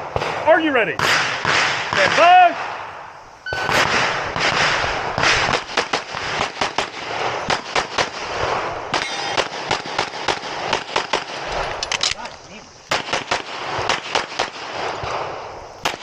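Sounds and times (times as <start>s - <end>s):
rapid pistol shots: 1.0s - 2.9s, 3.6s - 11.5s, 12.9s - 16.0s.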